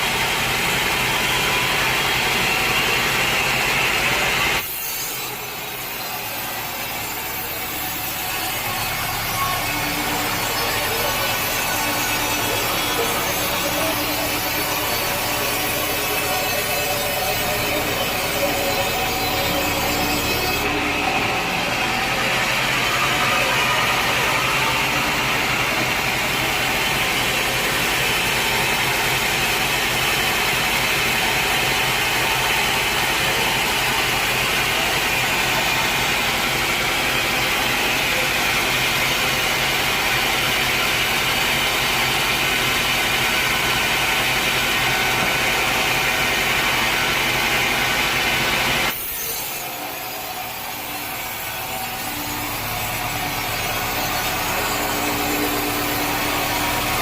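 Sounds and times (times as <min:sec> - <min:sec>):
band sawmill cutting log: 0:00.0 - 0:57.0
sawmill machine running: 0:00.0 - 0:57.0.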